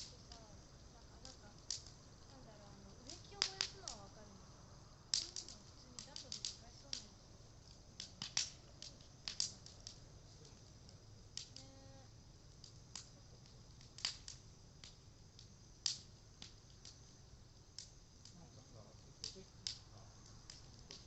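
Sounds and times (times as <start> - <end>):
wood crackling in a bonfire: 0.0 - 21.0.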